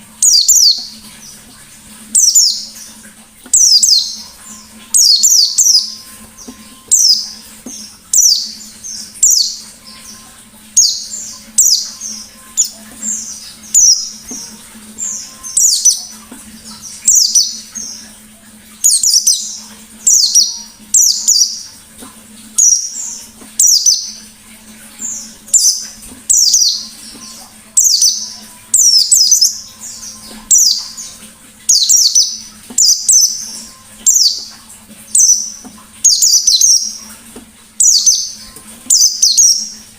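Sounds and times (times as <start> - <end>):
white-eye singing: 0.2 - 39.9.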